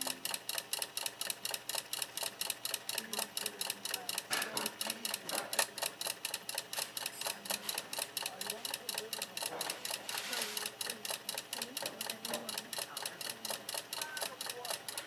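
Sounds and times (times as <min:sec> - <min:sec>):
small motor mechanism clicking: 0:00.0 - 0:15.0.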